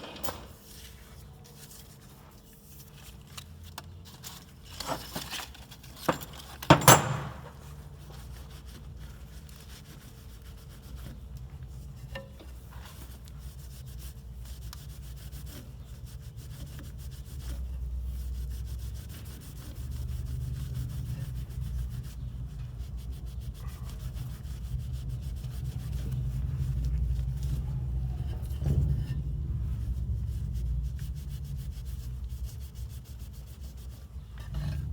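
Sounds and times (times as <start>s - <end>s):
metal tool being scrubbed: 4.8s - 34.9s.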